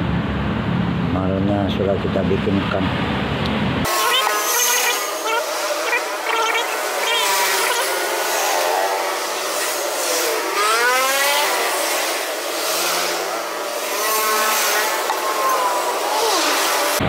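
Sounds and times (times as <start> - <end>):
engine revving: 2.4 - 17.0.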